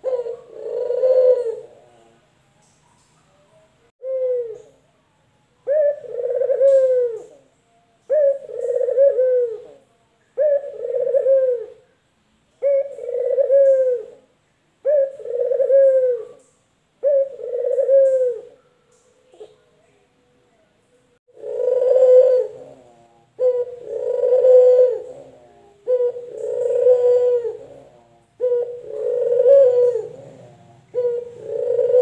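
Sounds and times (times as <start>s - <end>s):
collared dove cooing: 0.0s - 2.2s, 4.0s - 4.8s, 5.6s - 9.8s, 10.4s - 11.9s, 12.6s - 19.6s, 21.3s - 32.0s.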